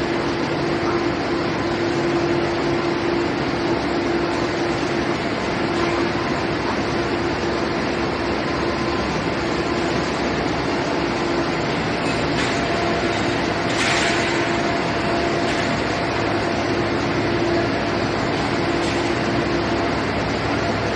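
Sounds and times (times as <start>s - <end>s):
constant low hum: 0.0s - 20.9s
industrial furnace drone: 0.0s - 20.9s.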